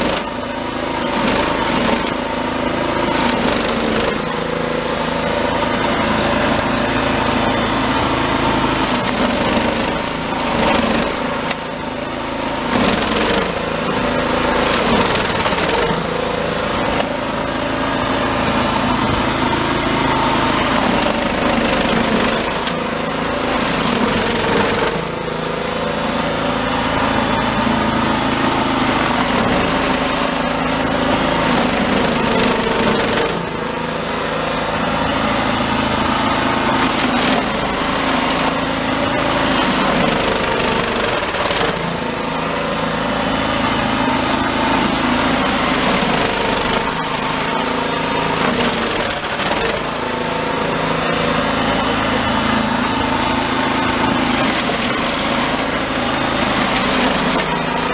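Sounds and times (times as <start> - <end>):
snowblower churning snow: 0.0 - 57.9
snowblower engine under load: 0.0 - 57.9.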